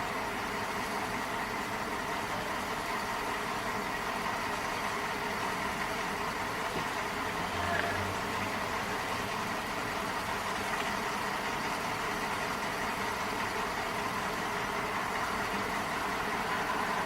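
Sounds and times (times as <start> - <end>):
vehicle engine running steadily: 0.0 - 17.0.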